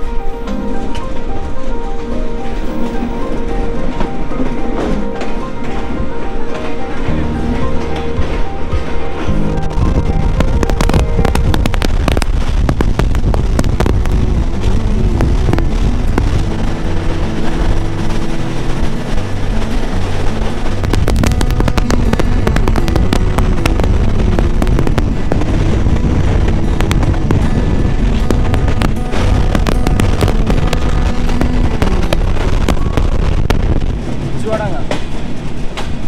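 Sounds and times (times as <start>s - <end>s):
background music with bass: 0.0s - 34.0s
rushing air: 0.0s - 36.0s
train wheels clattering on rails: 0.0s - 36.0s.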